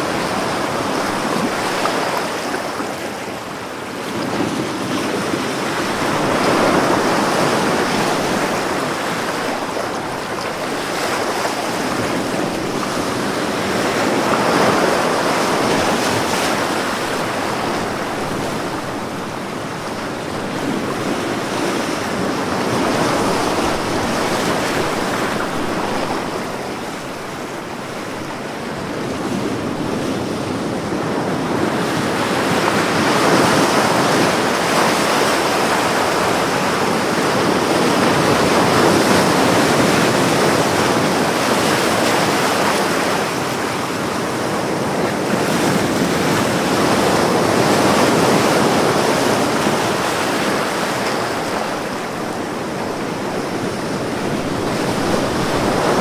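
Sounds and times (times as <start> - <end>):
ocean waves on a beach: 0.0 - 56.0.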